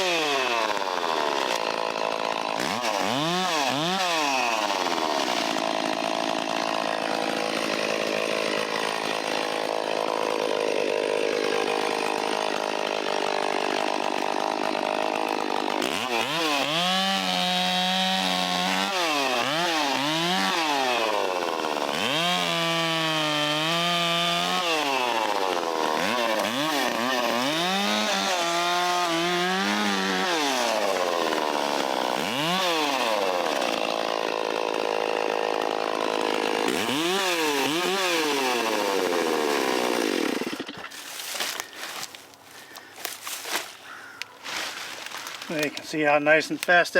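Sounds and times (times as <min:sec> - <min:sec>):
chainsaw cutting branches: 0:00.0 - 0:46.9
chainsaw revving: 0:00.0 - 0:46.9.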